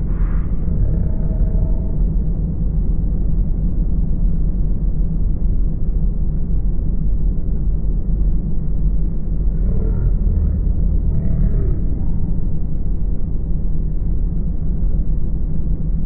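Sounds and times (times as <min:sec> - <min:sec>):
boat engine low rumble: 0:00.0 - 0:16.0.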